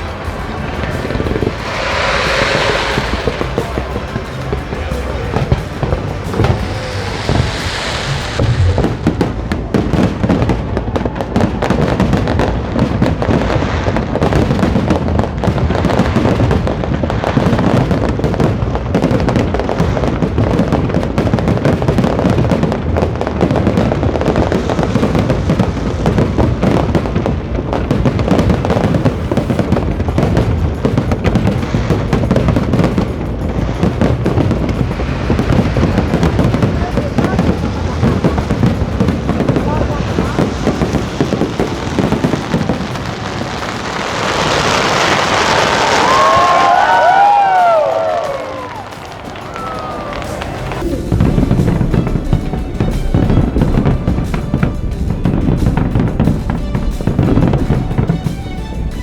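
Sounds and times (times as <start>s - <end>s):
fireworks bangs and crackles: 0.0s - 59.0s
music playing: 0.0s - 59.0s.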